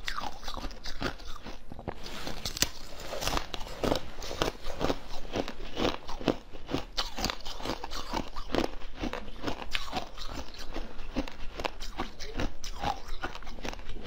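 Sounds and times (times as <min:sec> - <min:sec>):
crunching frozen jelly: 0:00.0 - 0:14.0.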